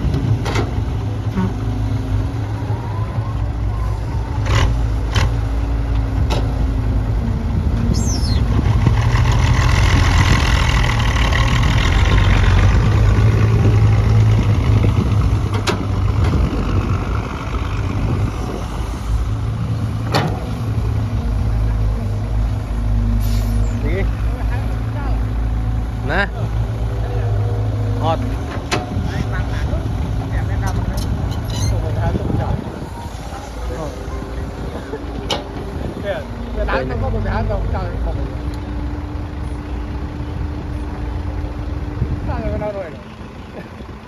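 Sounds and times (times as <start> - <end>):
construction machinery rumbling: 0.0 - 44.0.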